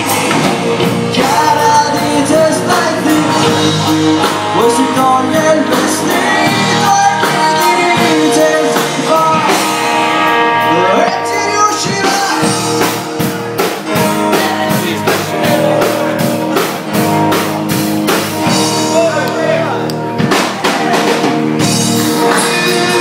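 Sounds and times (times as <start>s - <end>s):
bass guitar: 0.0s - 23.0s
drum kit: 0.0s - 23.0s
electric guitar: 0.0s - 23.0s
person singing: 0.8s - 9.8s, 10.5s - 16.8s, 18.8s - 23.0s.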